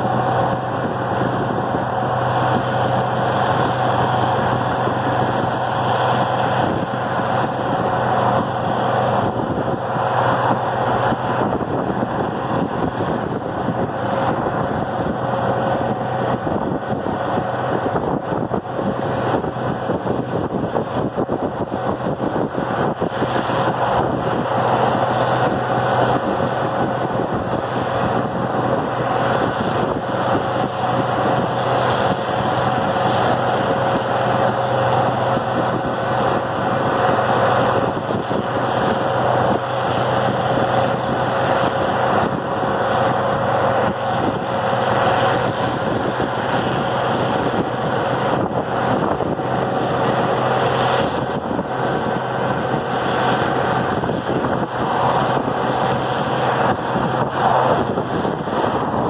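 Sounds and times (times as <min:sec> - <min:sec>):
road and wind noise: 0:00.0 - 0:59.0
tractor engine running: 0:00.0 - 0:59.0.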